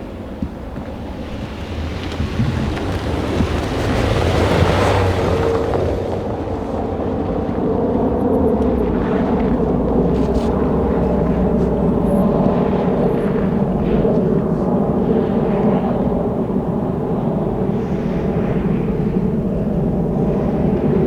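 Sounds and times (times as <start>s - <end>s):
tyres rushing through snow: 0.0s - 21.0s
rally car engine: 0.1s - 21.0s.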